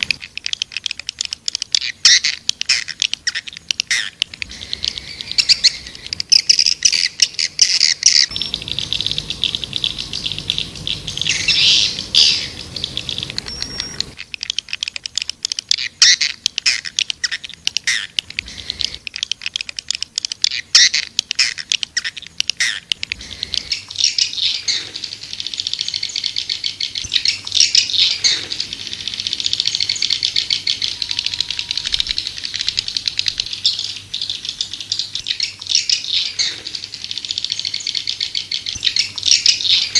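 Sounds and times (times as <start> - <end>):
swiftlets twittering: 0.0 - 39.9.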